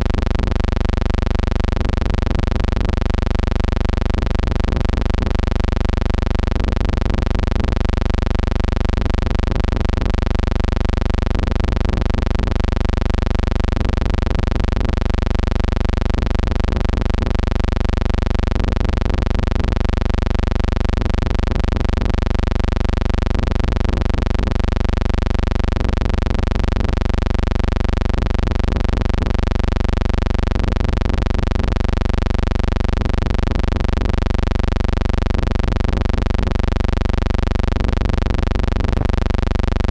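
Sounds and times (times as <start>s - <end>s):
steady buzzing hum: 0.0s - 39.9s.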